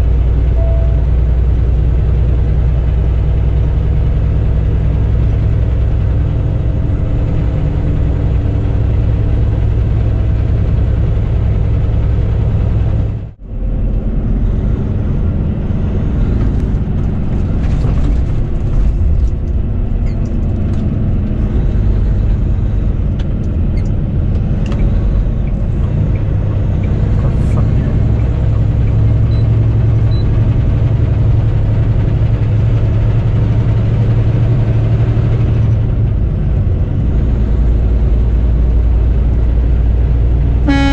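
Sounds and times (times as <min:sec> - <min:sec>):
diesel truck engine running: 0:00.0 - 0:40.9
road noise: 0:00.0 - 0:40.9.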